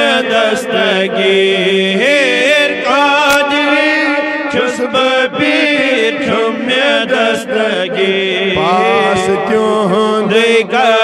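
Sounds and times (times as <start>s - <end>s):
men chanting a hymn: 0.0s - 11.0s.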